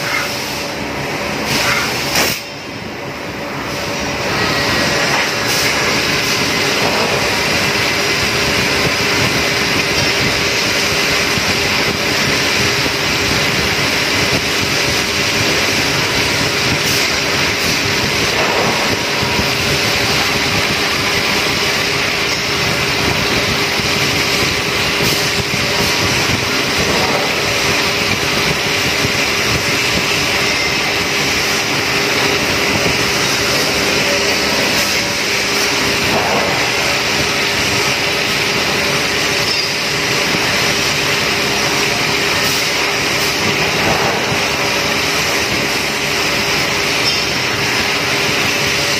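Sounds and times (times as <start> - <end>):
drilling machine hum: 0.0 - 48.9
coolant spraying and splashing: 4.4 - 48.9.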